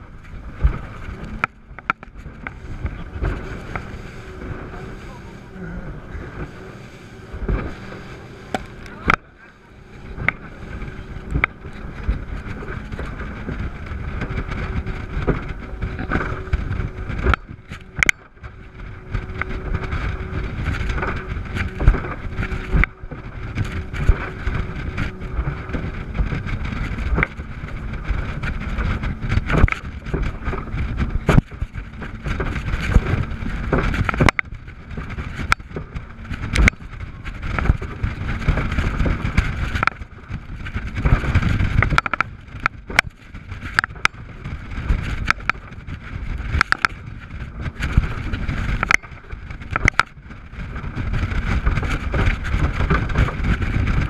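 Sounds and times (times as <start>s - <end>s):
outboard motors droning: 0.0s - 54.0s
water rushing: 0.0s - 54.0s.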